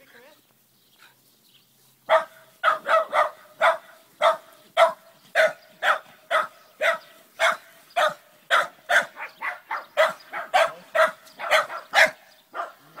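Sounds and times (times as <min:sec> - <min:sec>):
small dog barking: 0:02.1 - 0:13.0.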